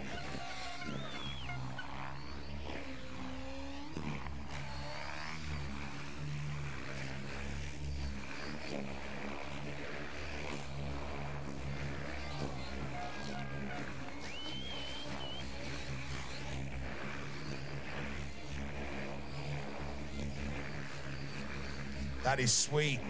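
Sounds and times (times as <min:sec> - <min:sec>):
rc helicopter rotor whining: 0:00.0 - 0:23.0.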